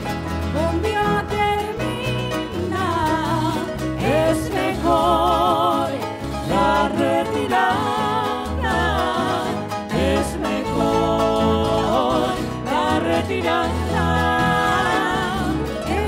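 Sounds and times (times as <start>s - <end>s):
instrumental folk accompaniment: 0.0s - 16.0s
person singing with vibrato: 0.4s - 16.0s.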